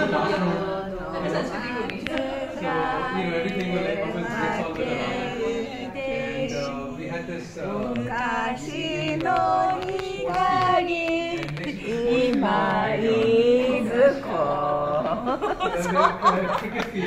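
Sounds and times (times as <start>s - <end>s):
people singing together: 0.0s - 17.0s.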